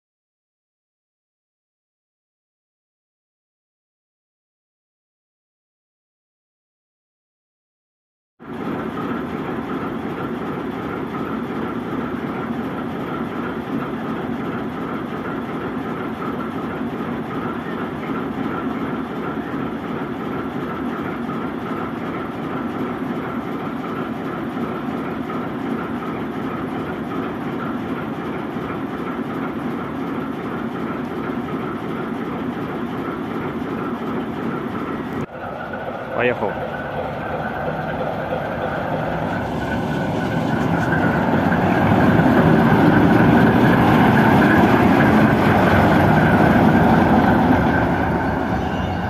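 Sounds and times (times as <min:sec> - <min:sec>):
diesel locomotive engine idling: 0:08.4 - 0:49.0.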